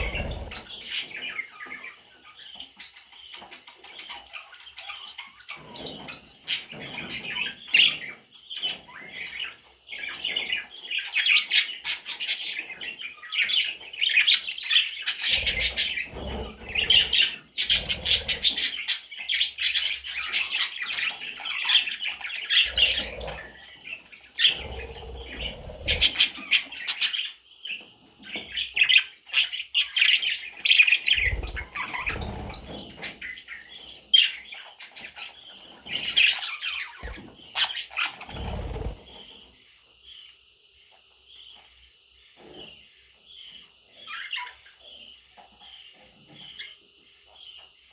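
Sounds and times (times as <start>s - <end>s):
budgerigar chicks chirping: 0.0s - 40.5s, 41.3s - 47.9s.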